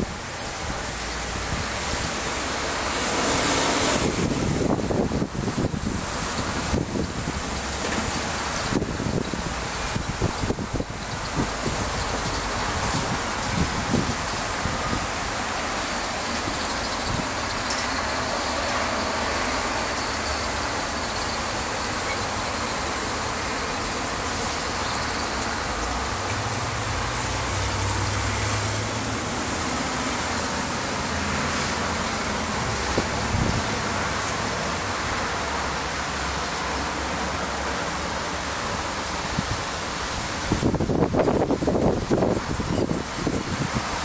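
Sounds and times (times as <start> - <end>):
street traffic: 0.0 - 44.0.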